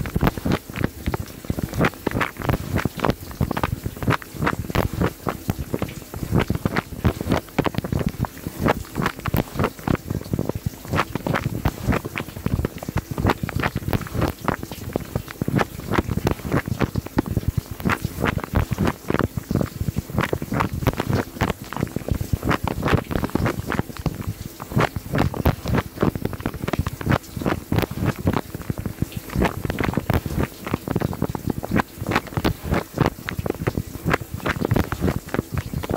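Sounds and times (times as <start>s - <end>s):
dishwasher water splashing: 0.0s - 35.9s.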